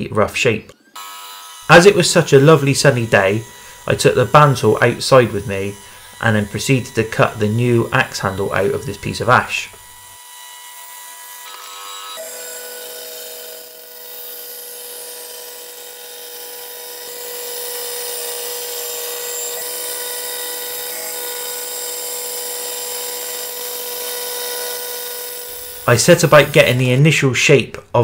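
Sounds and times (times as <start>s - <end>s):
bandsaw cutting wood: 0.7s - 27.2s.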